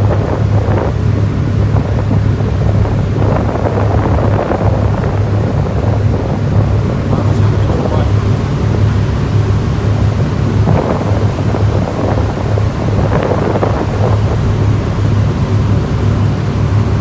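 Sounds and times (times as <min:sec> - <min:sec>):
ship engine droning: 0:00.0 - 0:17.0
wind buffeting microphone: 0:00.0 - 0:17.0.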